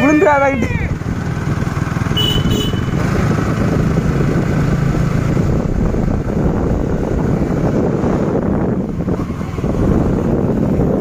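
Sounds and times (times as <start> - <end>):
motorcycle running: 0.0 - 11.0.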